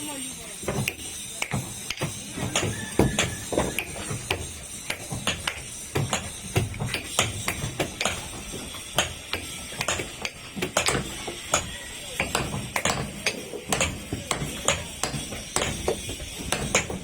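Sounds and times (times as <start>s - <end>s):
taps and knocks: 0.7s - 8.4s, 9.0s - 17.0s.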